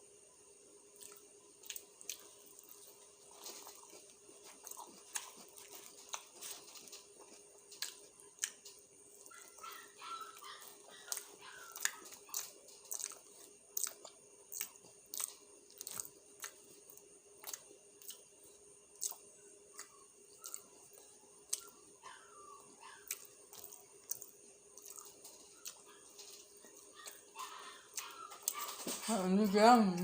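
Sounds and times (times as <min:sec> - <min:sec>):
person chewing: 0:00.9 - 0:28.6.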